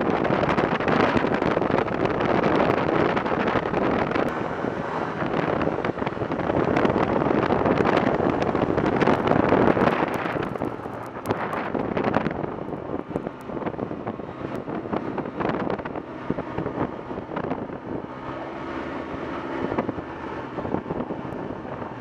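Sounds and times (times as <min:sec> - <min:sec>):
snowmobile running: 0:00.0 - 0:22.0
wind buffeting microphone: 0:00.0 - 0:22.0.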